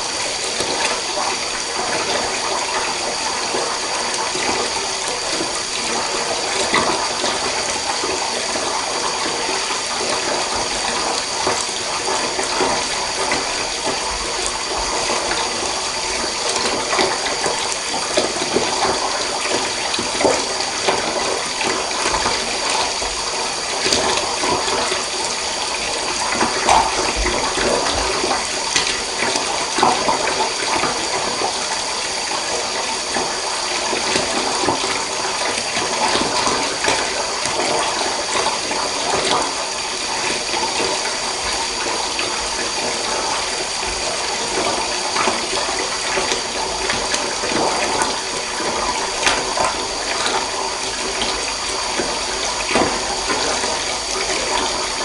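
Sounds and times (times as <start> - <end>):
tap water running into bath: 0.0 - 55.0.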